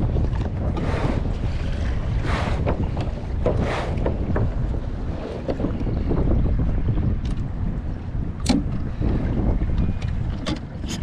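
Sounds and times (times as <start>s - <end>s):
water splashing against hull: 0.0s - 11.0s
wind buffeting microphone: 0.0s - 11.0s.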